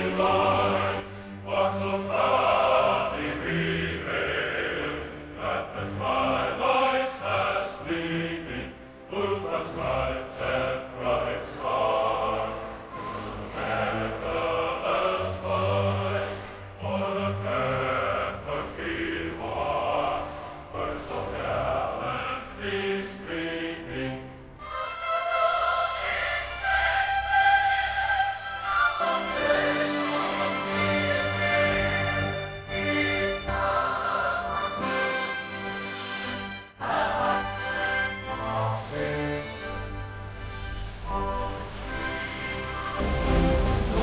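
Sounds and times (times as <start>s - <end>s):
choir singing anthem: 0.0s - 44.0s.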